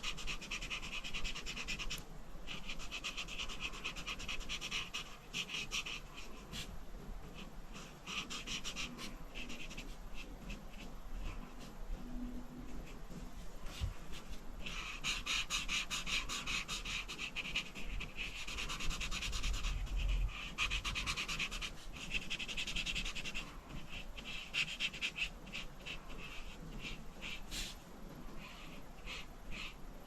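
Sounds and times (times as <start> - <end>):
scratchy scribbling on paper: 0.0 - 29.8.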